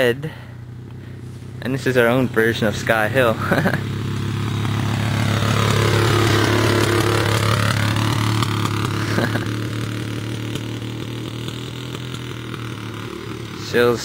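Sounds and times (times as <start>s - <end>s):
small vehicle engine running: 0.0s - 14.0s.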